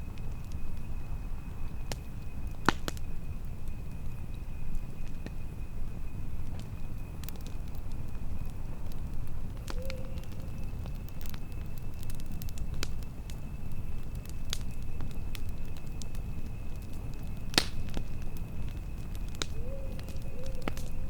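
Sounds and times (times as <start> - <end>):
campfire crackling and popping: 0.0 - 21.0
low wind rumble: 0.0 - 21.0.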